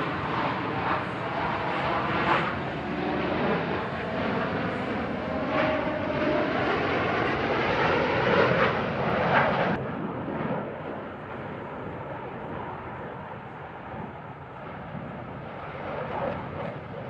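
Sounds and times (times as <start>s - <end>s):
jets flying by roaring: 0.0s - 17.0s.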